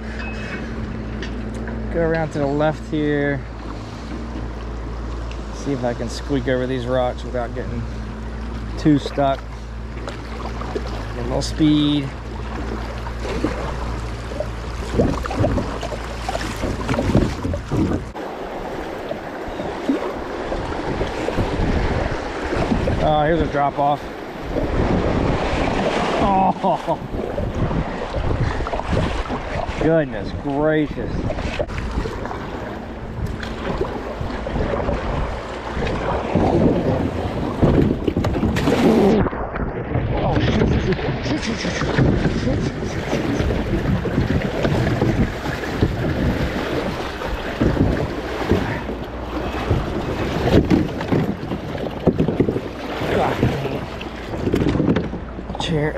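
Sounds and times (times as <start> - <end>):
low underwater rumble: 0.0 - 23.5, 24.1 - 55.9
rushing river water: 0.0 - 55.9
wind buffeting microphone: 5.7 - 55.9
sharp splashes and knocks: 7.0 - 23.7, 24.5 - 30.6, 31.2 - 55.9.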